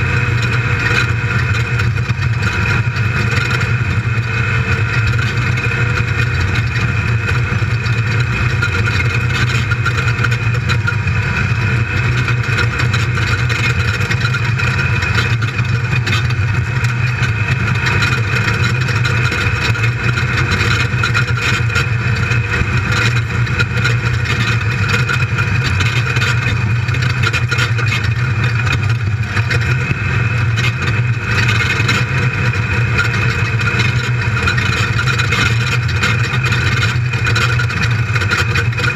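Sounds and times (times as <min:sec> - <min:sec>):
engine running hard: 0:00.0 - 0:38.9
knocks and rattles: 0:00.0 - 0:38.9.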